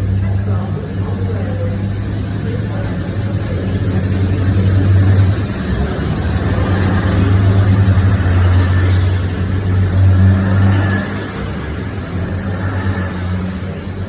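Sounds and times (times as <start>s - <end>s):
diesel train engine drone: 0.0s - 14.0s.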